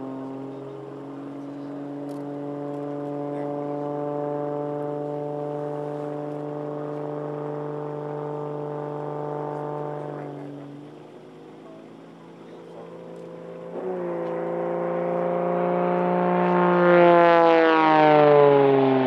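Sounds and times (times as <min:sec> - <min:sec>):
propeller plane passing overhead: 0:00.0 - 0:19.0.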